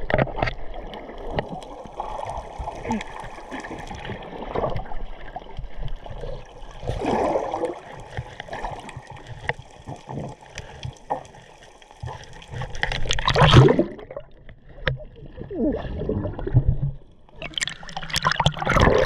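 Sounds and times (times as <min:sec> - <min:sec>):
muffled water sloshing: 0:00.0 - 0:19.0
rush of splashing and bubbles: 0:00.0 - 0:19.0.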